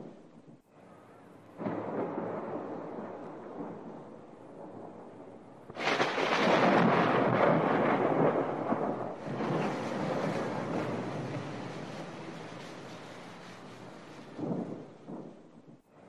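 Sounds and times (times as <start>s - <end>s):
thunder crack and rolling rumble: 0.0s - 16.0s.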